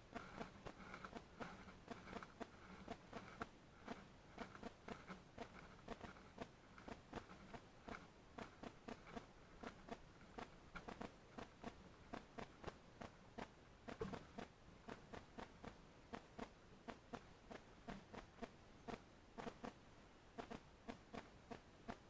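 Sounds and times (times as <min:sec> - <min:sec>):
birds pecking and hopping: 0:00.0 - 0:22.0.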